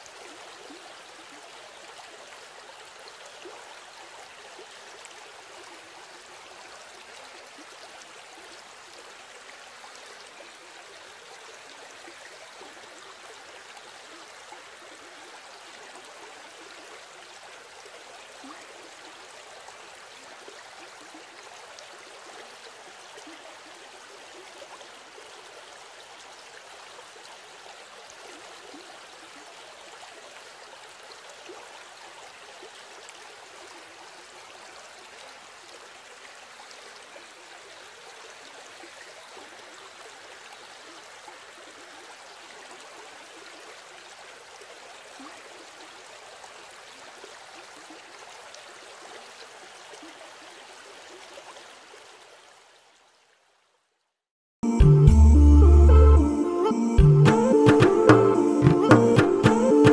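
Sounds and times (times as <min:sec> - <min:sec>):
running water babbling: 0:00.0 - 0:55.0, 0:55.6 - 0:59.9.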